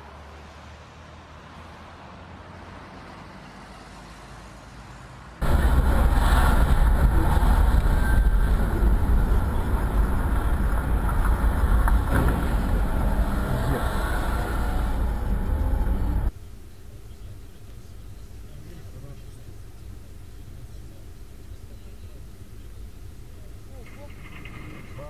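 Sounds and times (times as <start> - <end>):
vehicle rumbling with hiss: 2.6 - 25.0.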